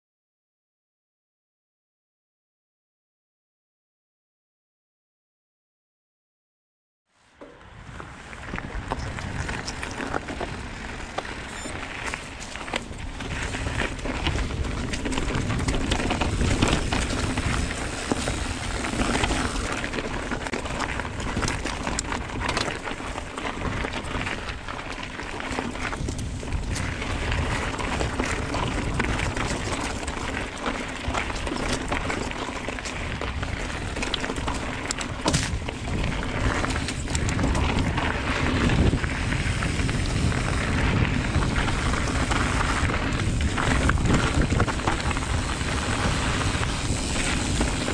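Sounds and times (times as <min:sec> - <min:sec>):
wind: 0:07.1 - 0:47.9
bike tyres rumbling on dirt: 0:07.2 - 0:47.9
bike clicking and rattling: 0:07.4 - 0:47.9.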